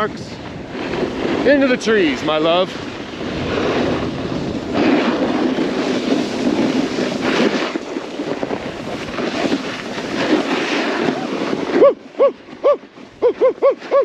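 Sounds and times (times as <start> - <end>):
snowboard scraping over snow: 0.0 - 14.0
wind buffeting microphone: 0.0 - 14.0.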